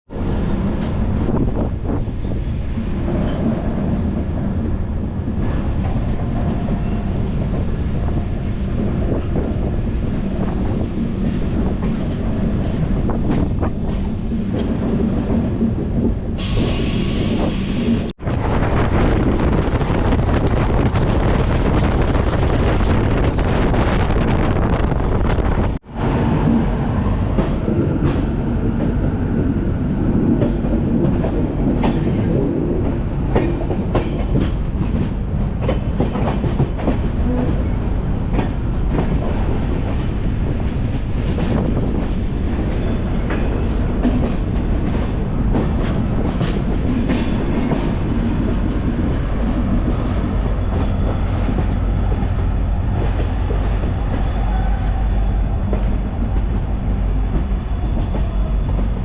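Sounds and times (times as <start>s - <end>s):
train wheels rumbling: 0.1s - 59.0s.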